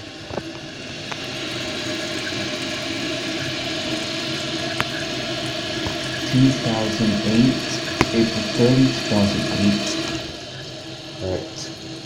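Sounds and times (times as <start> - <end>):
toilet tank refilling: 0.0 - 12.0.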